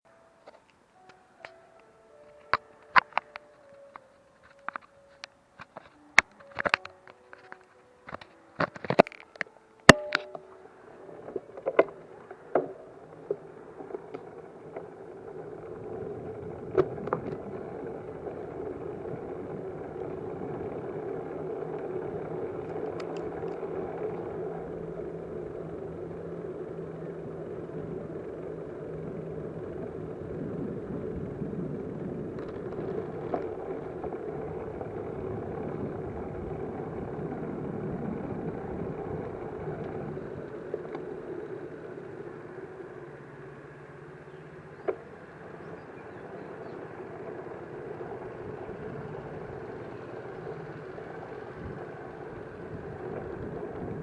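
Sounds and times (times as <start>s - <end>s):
vehicle rumble: 0.0s - 54.0s.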